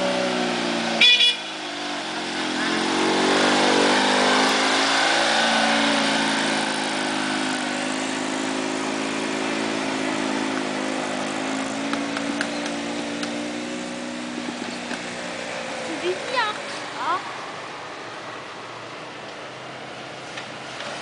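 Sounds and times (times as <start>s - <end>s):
off-road car engines under load: 0.0s - 21.0s.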